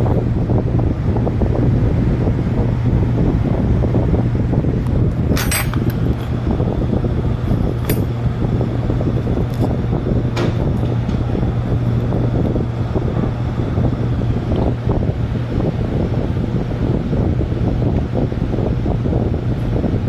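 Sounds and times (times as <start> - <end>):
low hum with rough rumble: 0.0 - 20.0.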